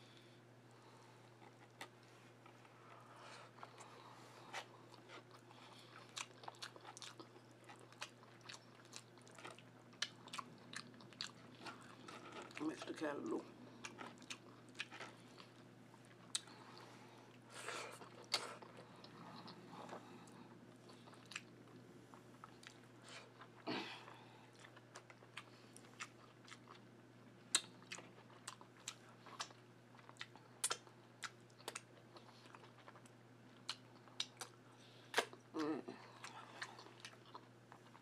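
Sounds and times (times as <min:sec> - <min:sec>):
person chewing soft food: 0:00.0 - 0:38.0.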